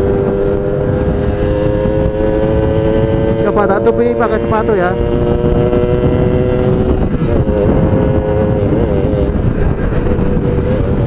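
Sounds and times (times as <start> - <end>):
two-stroke motorcycle engine: 0.0 - 11.0
wind rush: 0.0 - 11.0.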